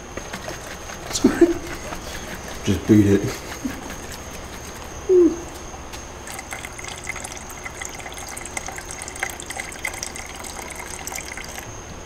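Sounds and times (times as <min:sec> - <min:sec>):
liquid pouring into plastic cup: 0:00.0 - 0:11.7.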